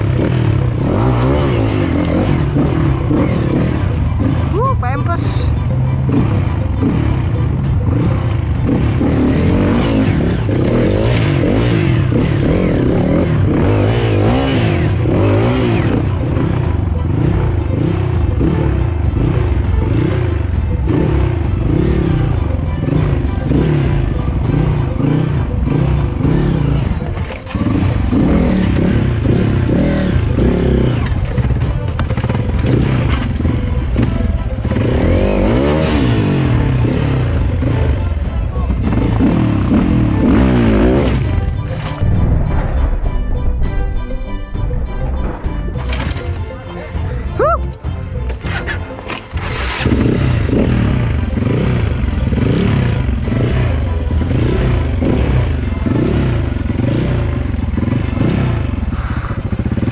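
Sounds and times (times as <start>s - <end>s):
dirt bike engine revving: 0.0s - 4.6s, 5.2s - 42.0s, 48.3s - 59.9s.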